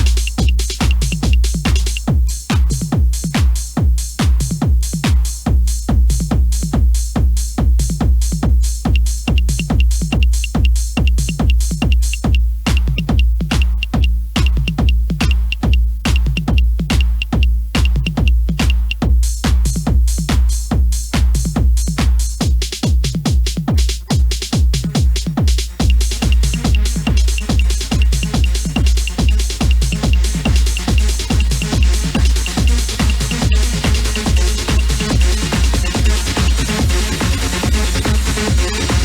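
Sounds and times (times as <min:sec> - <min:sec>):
electronic dance music: 0:00.0 - 0:03.8, 0:07.4 - 0:39.0.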